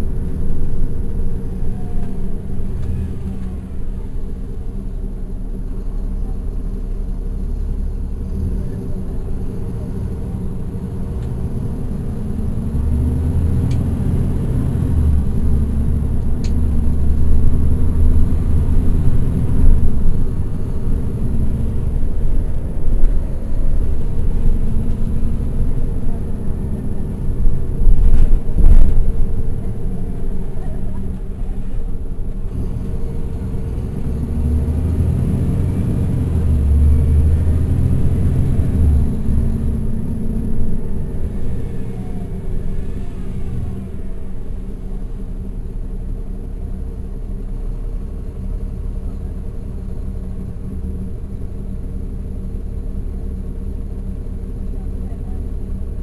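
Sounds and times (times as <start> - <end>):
bus diesel engine droning: 0.0 - 56.0.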